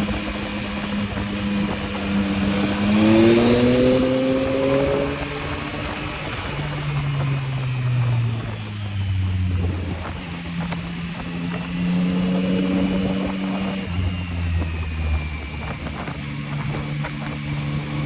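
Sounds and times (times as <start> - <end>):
motorcycle engine revving: 0.0 - 18.0
wind rush: 0.0 - 18.0.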